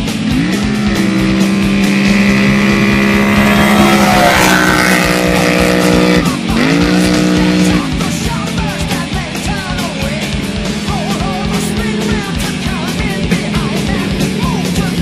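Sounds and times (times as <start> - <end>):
quad engine revving high: 0.0 - 15.0.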